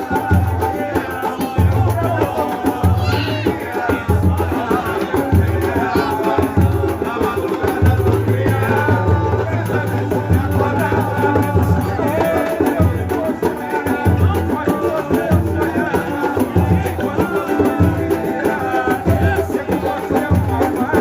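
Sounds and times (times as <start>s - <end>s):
samba music: 0.0s - 21.0s
voices singing: 0.0s - 21.0s.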